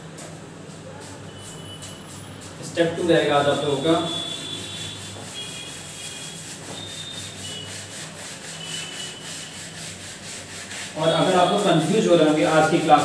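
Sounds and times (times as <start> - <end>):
cloth scrubbing a chalkboard: 1.9 - 13.0.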